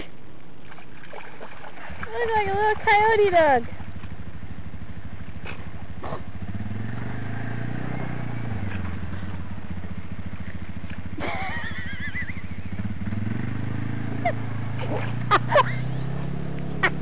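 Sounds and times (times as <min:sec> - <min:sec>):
vehicle engine idling: 0:02.0 - 0:17.0.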